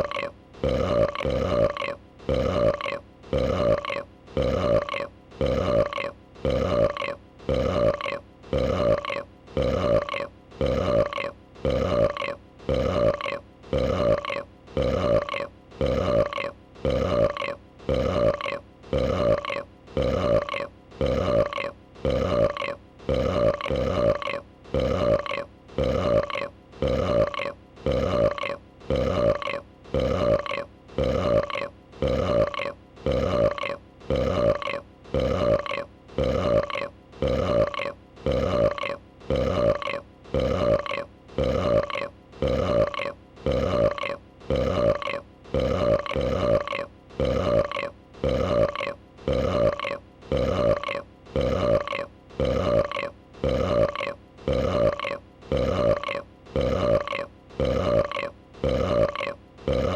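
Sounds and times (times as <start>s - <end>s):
creature burping: 0.0s - 59.9s.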